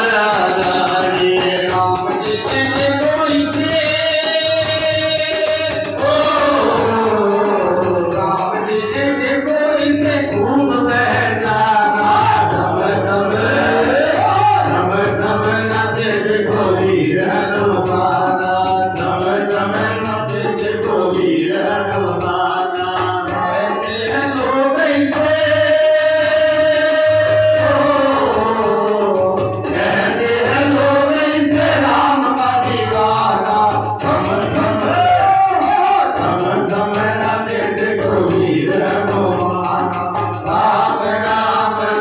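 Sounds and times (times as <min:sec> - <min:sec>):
men singing devotional song: 0:00.0 - 0:42.0
percussion beat: 0:00.0 - 0:42.0.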